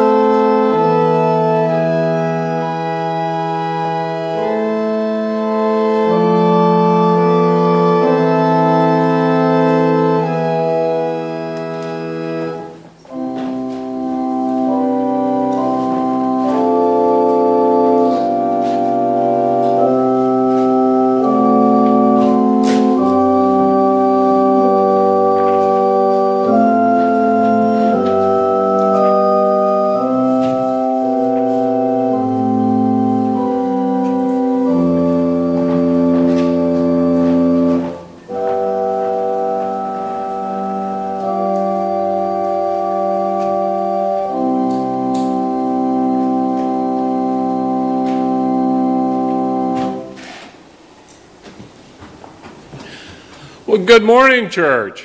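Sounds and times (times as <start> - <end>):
organ playing held chords: 0.0 - 51.4.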